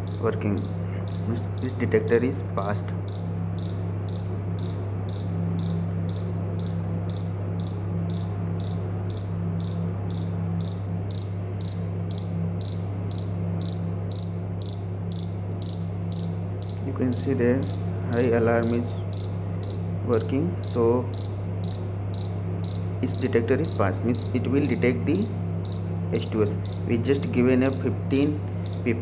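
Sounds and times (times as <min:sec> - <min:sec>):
gas detector alarm beeping rapidly: 0:00.0 - 0:29.0
steady low hum: 0:00.0 - 0:29.0.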